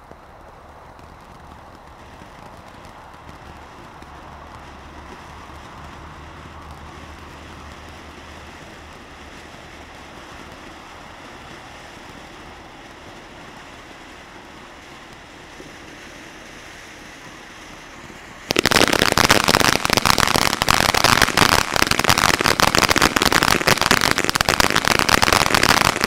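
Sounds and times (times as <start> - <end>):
firework fountain hissing: 0.0 - 26.0.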